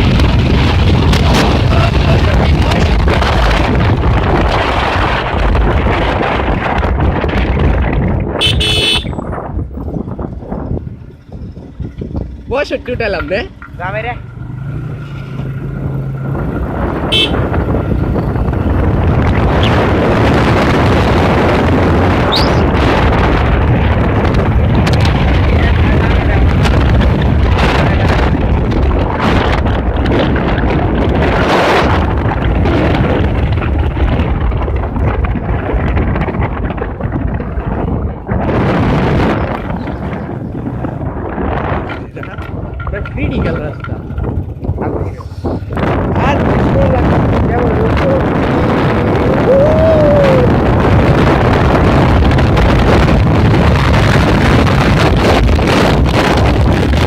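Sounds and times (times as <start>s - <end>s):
motorbike engine running: 0.0s - 57.0s
wind buffeting microphone: 0.0s - 57.0s.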